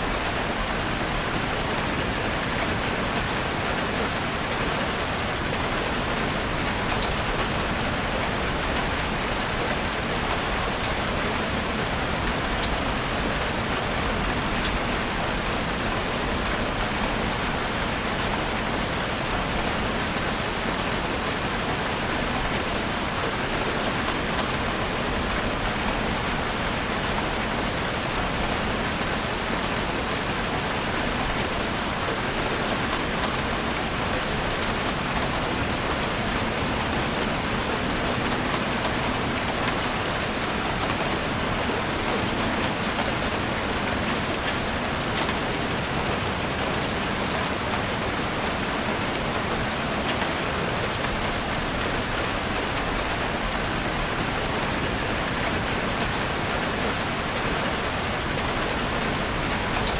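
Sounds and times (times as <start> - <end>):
heavy rain on roof: 0.0 - 59.9.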